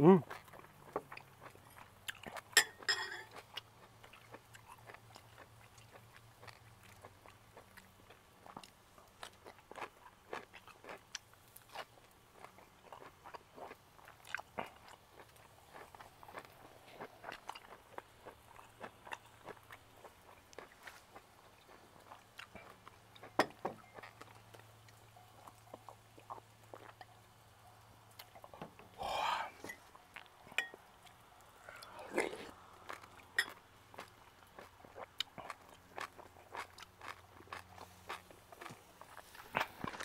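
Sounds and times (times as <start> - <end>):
chewing with wet mouth smacks: 0.2 - 28.6, 29.5 - 40.0.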